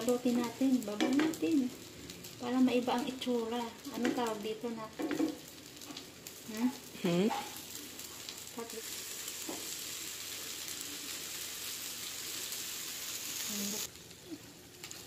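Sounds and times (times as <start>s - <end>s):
omelette sizzling in frying pan: 0.0s - 15.0s.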